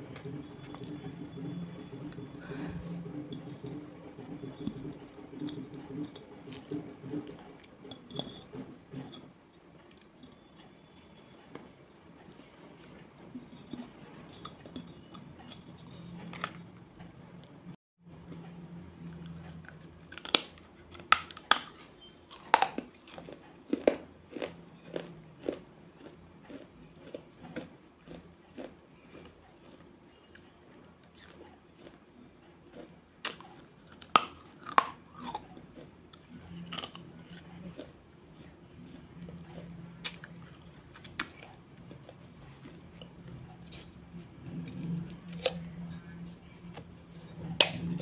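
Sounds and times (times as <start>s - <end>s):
rhythmic chewing crunches: 0.0s - 17.5s, 18.2s - 48.0s.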